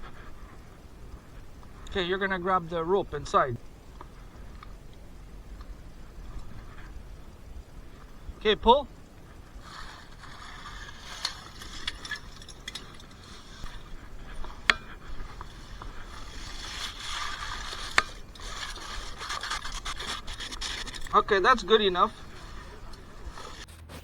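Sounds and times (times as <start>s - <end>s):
brush scraping along flue walls: 0.0s - 23.7s.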